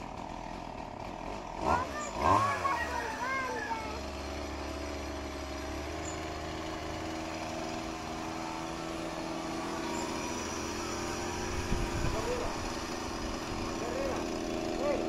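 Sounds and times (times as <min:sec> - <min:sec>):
chainsaw engine running: 0:00.0 - 0:15.0.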